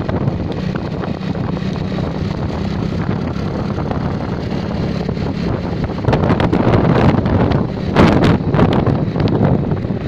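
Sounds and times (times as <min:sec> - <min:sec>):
low rumble: 0:00.0 - 0:10.0
wind buffeting microphone: 0:00.0 - 0:10.0.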